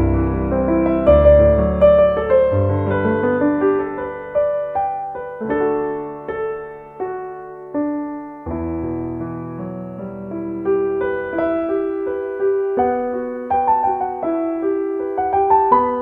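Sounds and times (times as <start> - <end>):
deep bass piano chord: 0.0 - 16.0
solo piano music: 0.0 - 16.0.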